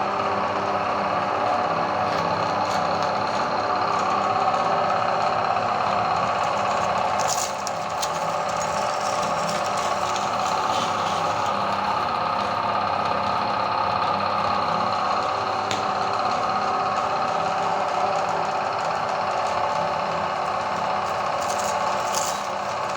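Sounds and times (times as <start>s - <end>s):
meat grinder motor running: 0.0s - 22.9s.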